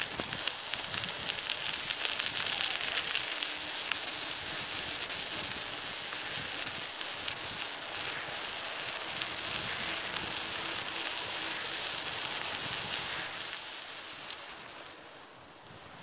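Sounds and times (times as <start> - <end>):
bicycle tyre hiss on pavement: 0.0 - 16.0.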